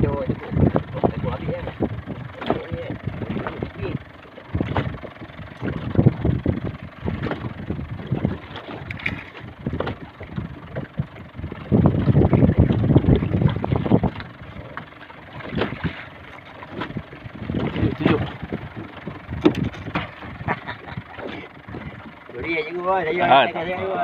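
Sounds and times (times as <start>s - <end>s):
wind buffeting microphone: 0.0s - 22.6s.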